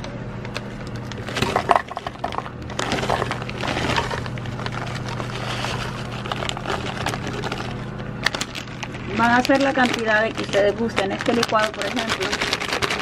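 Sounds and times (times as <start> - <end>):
frozen berries clattering in glass jar: 1.2 - 13.0.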